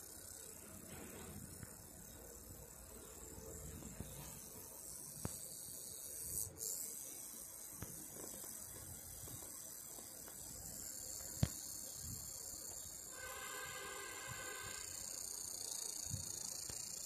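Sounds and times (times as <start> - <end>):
laser engraving hiss: 0.0 - 17.0.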